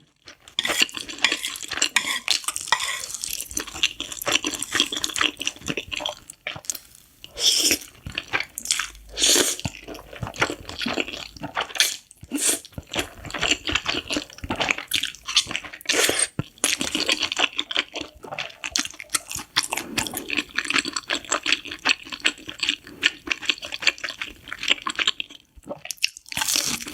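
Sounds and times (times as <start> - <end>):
wet chewing and mouth sounds: 0.1 - 26.9.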